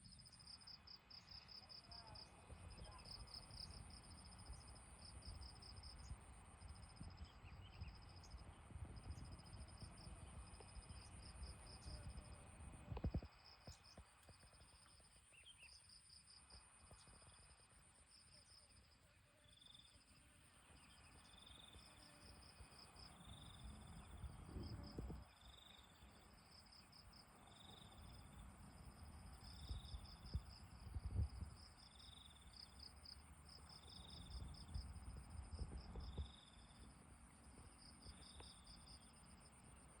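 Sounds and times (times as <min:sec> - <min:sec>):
insects trilling and chirping: 0:00.0 - 0:40.0.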